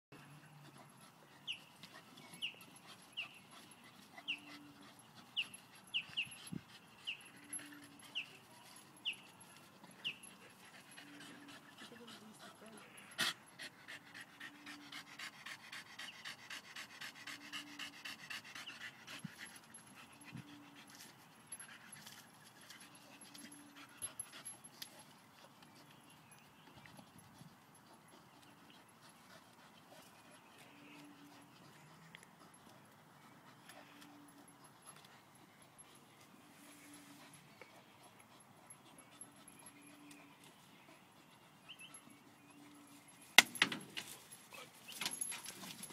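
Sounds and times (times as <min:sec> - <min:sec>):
dog panting quickly: 0:00.4 - 0:22.0, 0:22.6 - 0:43.2.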